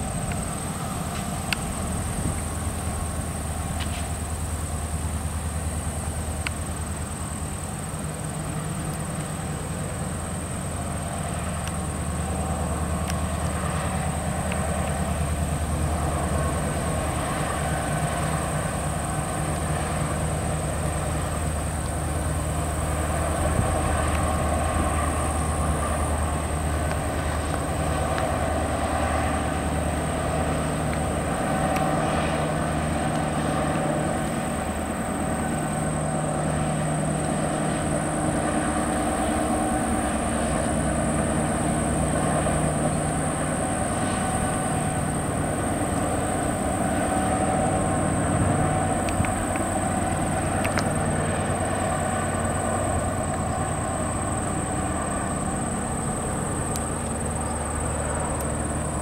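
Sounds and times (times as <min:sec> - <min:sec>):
locomotive diesel engines humming: 0:00.0 - 0:59.0
train rumbling on rails: 0:00.0 - 0:59.0.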